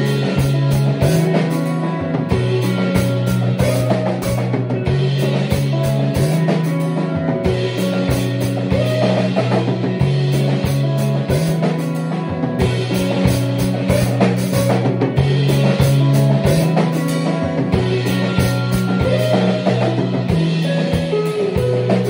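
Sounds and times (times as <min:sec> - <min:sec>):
drum kit with crashing cymbals: 0:00.0 - 0:22.0
electric guitar low notes: 0:00.0 - 0:22.0.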